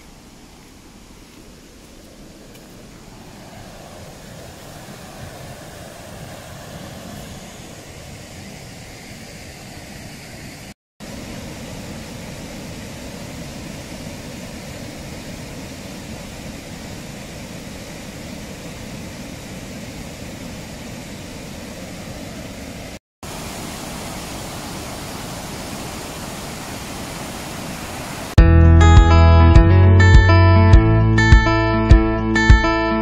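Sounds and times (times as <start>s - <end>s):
river rushing over rapids: 0.0s - 28.4s.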